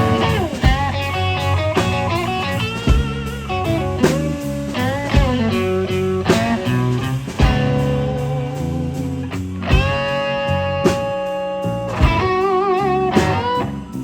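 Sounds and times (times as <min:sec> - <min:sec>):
drum hits: 0:00.0 - 0:11.3, 0:11.9 - 0:13.7
bass: 0:00.0 - 0:14.0
electric lead guitar: 0:00.0 - 0:14.0.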